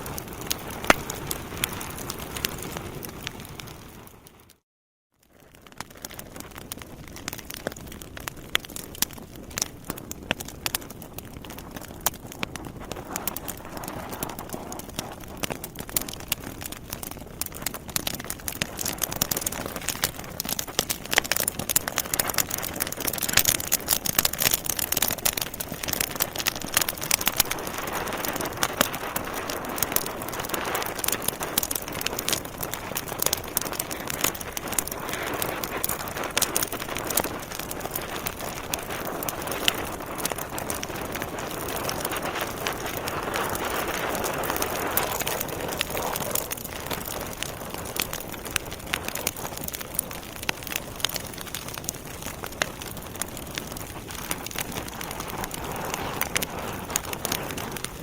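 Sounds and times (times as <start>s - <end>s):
rushing of flames: 0.0s - 4.5s, 5.3s - 58.0s
logs crackling and popping: 0.0s - 4.6s, 5.2s - 58.0s.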